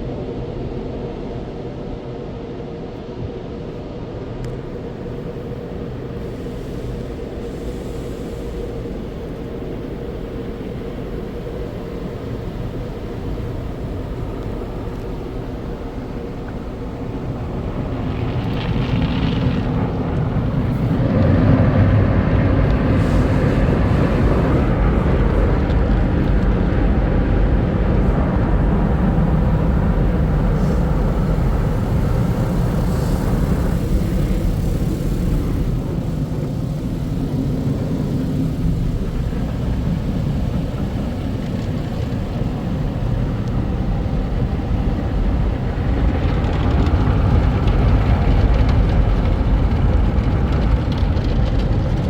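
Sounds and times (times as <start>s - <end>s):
car wash machinery rumble: 0.0s - 52.0s.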